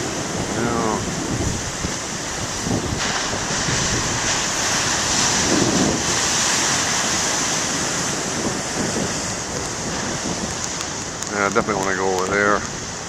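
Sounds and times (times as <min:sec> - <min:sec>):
ocean waves breaking: 0:00.0 - 0:13.0
wind buffeting microphone: 0:00.0 - 0:13.0.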